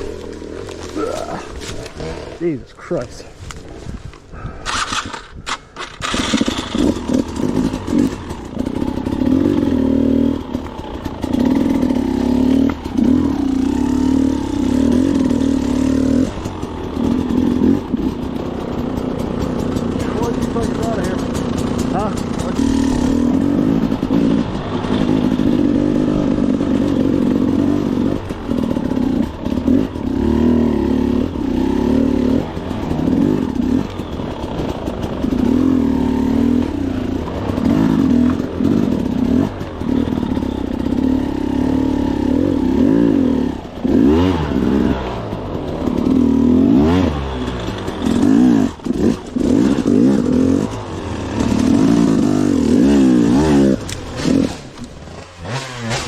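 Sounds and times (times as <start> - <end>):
dirt bike engine revving: 0.0 - 3.0, 4.7 - 56.0.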